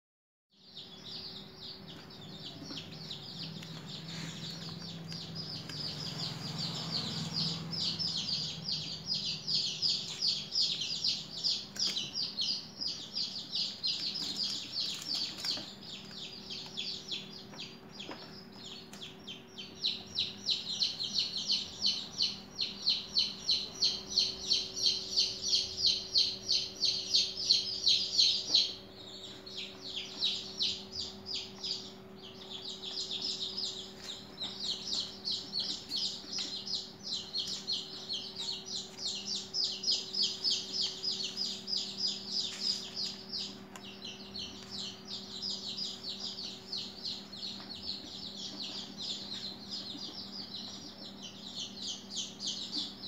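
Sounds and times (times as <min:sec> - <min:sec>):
birds chirping: 0:00.6 - 0:53.0
faint steady hum: 0:00.6 - 0:53.0.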